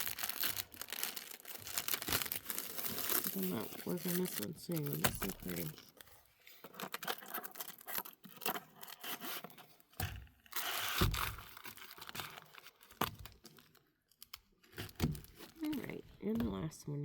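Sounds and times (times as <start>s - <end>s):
plastic packaging crinkling: 0.0s - 16.1s.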